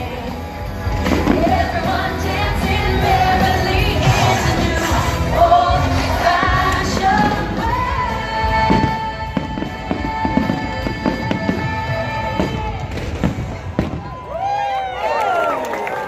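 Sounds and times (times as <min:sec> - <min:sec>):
fireworks bangs and crackles: 0:00.0 - 0:14.8.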